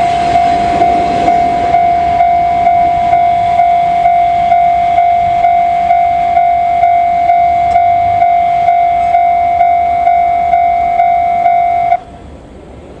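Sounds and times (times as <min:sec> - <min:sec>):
level crossing electronic bell: 0:00.0 - 0:12.0.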